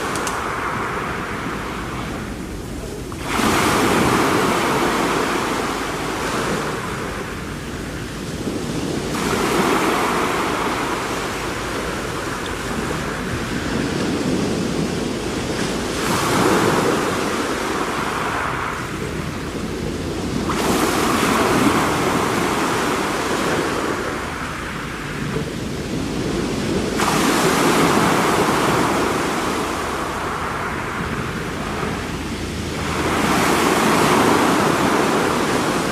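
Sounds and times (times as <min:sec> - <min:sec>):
sea waves washing onto shore: 0:00.0 - 0:35.9.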